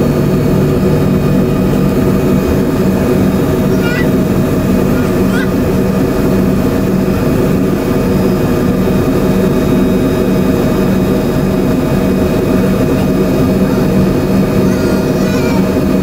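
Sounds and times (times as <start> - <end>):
jet engine roar in cabin: 0.0 - 16.0.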